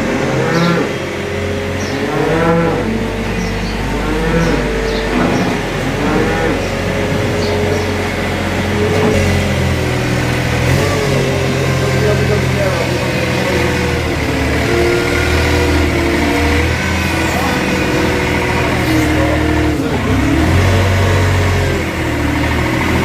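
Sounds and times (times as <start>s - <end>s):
cattle mooing: 0.0s - 22.4s
machine engine running: 0.0s - 23.0s.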